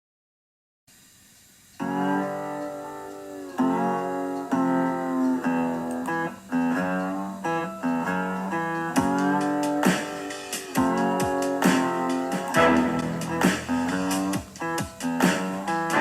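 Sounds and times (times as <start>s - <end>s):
guitar strumming chords: 1.8s - 16.0s.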